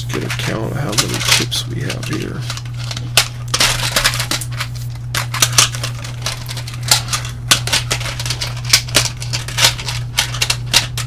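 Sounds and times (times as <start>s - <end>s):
plastic tubes clattering: 0.0s - 11.0s
steady low hum: 0.0s - 11.0s.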